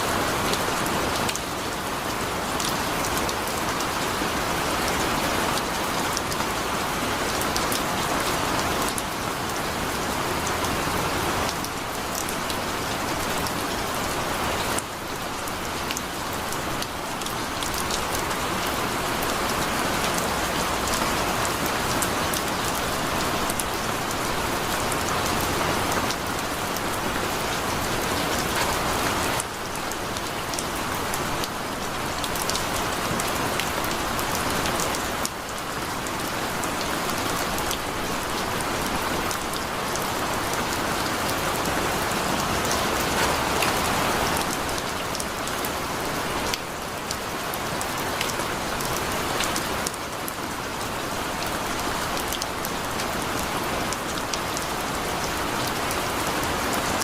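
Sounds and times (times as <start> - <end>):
heavy rain hissing: 0.0 - 49.4
raindrops ticking on surfaces: 0.0 - 57.0.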